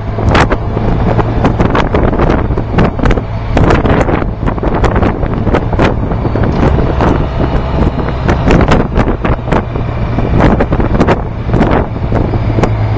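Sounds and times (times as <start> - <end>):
motorcycle engine drone: 0.0 - 12.9
wind buffeting microphone: 0.0 - 12.9.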